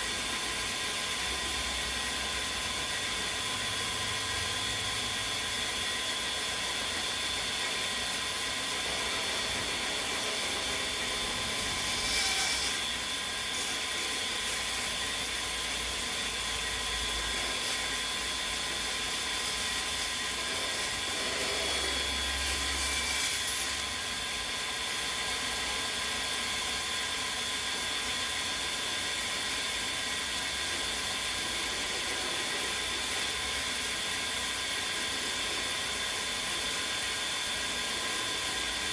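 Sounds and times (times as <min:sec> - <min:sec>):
electric drill motor whine: 0:00.0 - 0:38.9.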